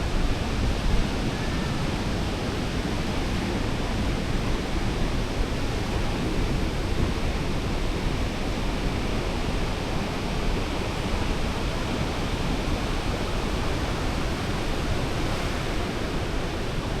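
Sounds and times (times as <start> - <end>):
sea surf rushing on beach: 0.0 - 17.0.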